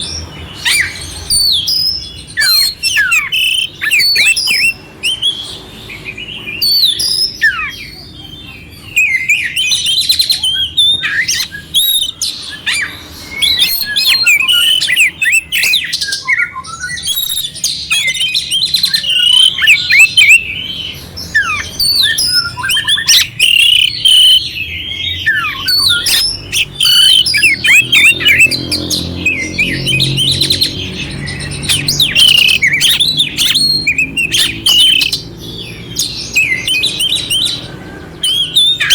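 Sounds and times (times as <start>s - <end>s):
bird singing whistles: 0.0s - 8.1s, 8.8s - 38.9s.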